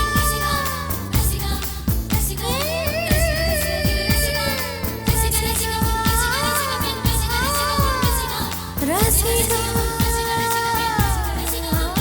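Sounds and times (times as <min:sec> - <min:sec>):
film song with driving beat: 0:00.0 - 0:12.0.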